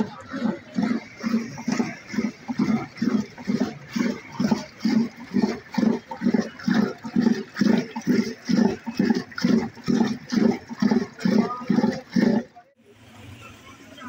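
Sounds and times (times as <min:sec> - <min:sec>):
wet sloshing of churning: 0:00.0 - 0:12.8.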